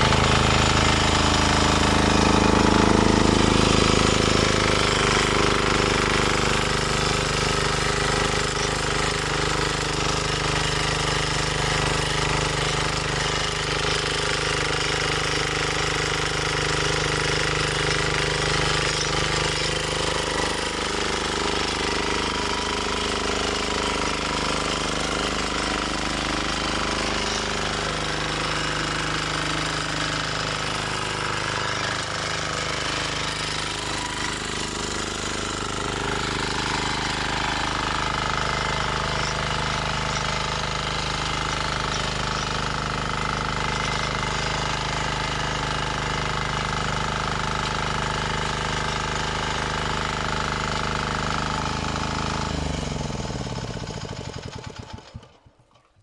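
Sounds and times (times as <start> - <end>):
diesel rotary tiller engine knocking: 0.0 - 55.6.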